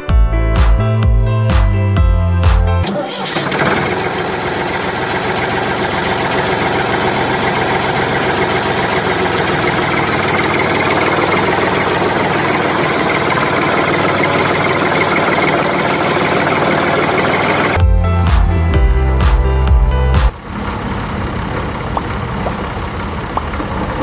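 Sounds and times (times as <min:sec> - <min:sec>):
tractor engine idling: 0:02.5 - 0:24.0.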